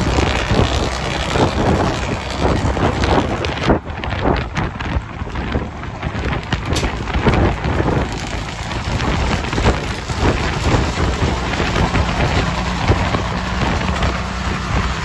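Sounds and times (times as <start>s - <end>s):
tyre and road noise: 0.0s - 15.0s
wind rushing past car window: 0.0s - 15.0s.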